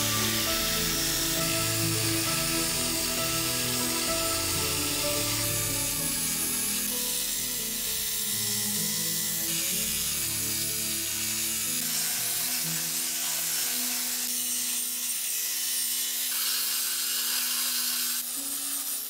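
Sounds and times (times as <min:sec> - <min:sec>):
background music: 0:00.0 - 0:16.5
belt grinder grinding steel: 0:00.0 - 0:19.0.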